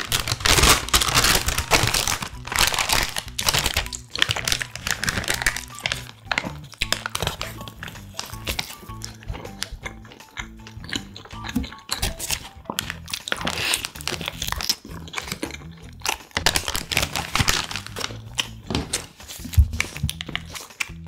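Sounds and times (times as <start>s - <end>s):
paper wrapper crinkling: 0.0s - 9.7s, 11.9s - 15.4s, 16.0s - 20.8s
chewing: 0.0s - 21.0s.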